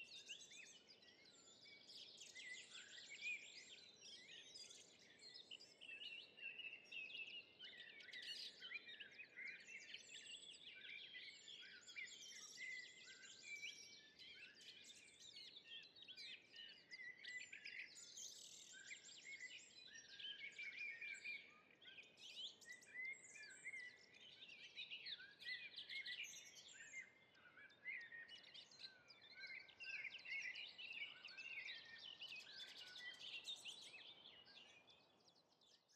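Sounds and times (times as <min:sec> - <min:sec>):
songbirds singing: 0:00.0 - 0:35.9.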